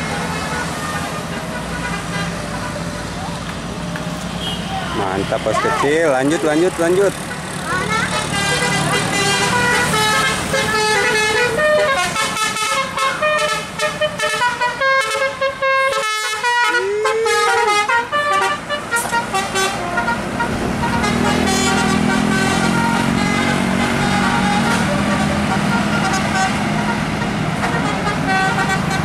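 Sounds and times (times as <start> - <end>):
multi-tone bus horn tune: 0.0 - 2.9, 4.3 - 5.6, 7.3 - 29.0.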